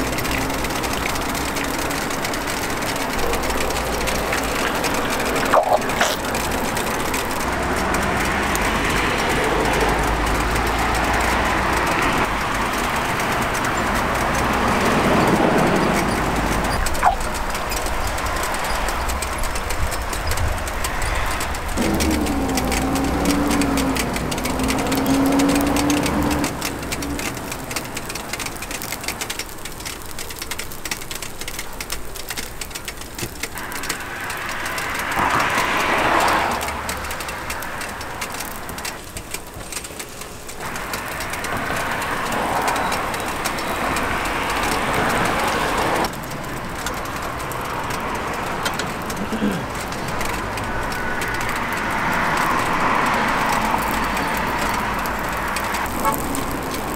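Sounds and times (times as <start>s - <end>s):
batter sizzling on griddle: 0.0s - 56.9s
street stall noise: 0.0s - 56.9s.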